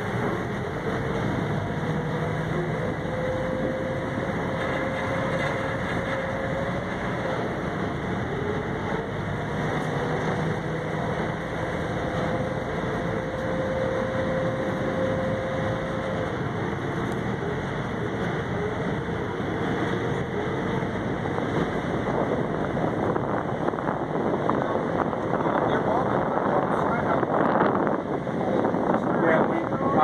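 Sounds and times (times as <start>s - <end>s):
boat engine hum: 0.0s - 30.0s
rushing water: 0.0s - 30.0s
wind: 0.0s - 30.0s.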